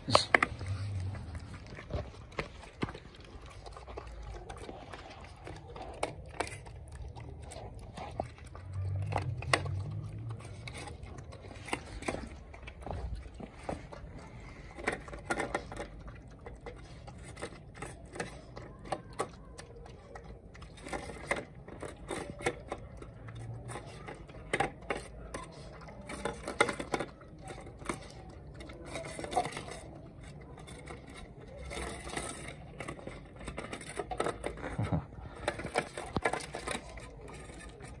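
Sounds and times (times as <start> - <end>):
metal bowl scraping on concrete: 0.0 - 19.1, 20.6 - 38.0
puppy chewing and lapping: 0.0 - 38.0.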